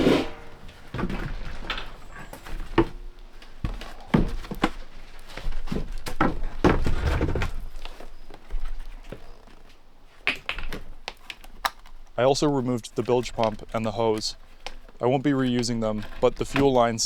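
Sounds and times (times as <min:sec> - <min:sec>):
knocks and clunks in wooden hull: 0:00.4 - 0:17.0.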